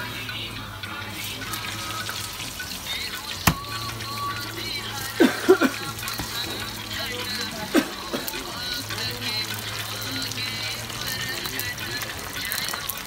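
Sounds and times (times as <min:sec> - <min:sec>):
oil frying with bubbling sizzle: 0:00.0 - 0:13.0.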